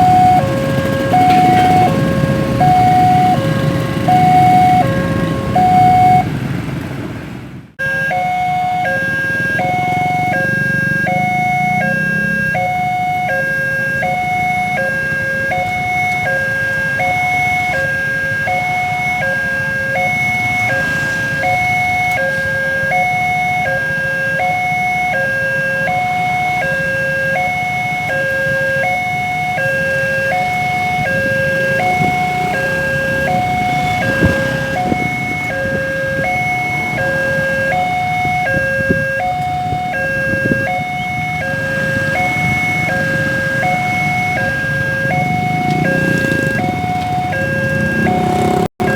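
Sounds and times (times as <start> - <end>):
level crossing two-tone alarm: 0.0 - 6.3, 7.8 - 48.9
low rumble of road traffic: 0.0 - 48.9.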